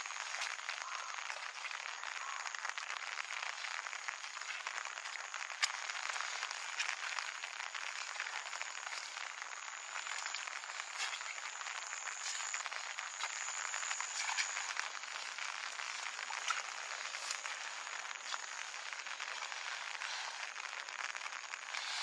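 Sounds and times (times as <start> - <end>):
rain pattering: 0.0 - 22.0.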